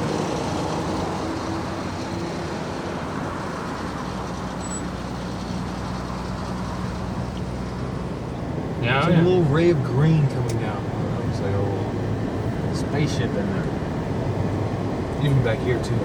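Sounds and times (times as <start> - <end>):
road and engine noise in car: 0.0 - 16.0.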